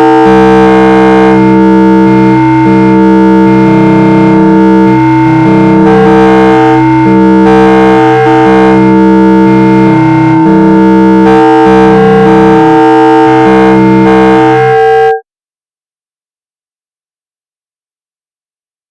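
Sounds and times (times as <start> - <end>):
synthesizer drone chords: 0.0 - 15.2.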